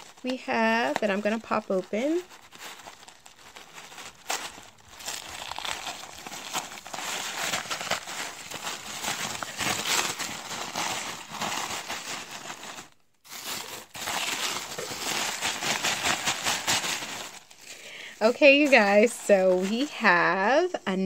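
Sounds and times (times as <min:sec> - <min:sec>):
tissue paper crinkling and rustling: 0:00.0 - 0:20.6.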